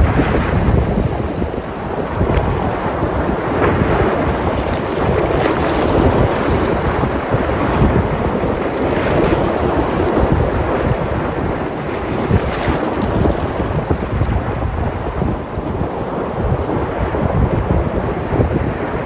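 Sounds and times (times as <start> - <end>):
sea surf breaking on shore: 0.0 - 19.0
wind buffeting microphone: 0.0 - 19.0.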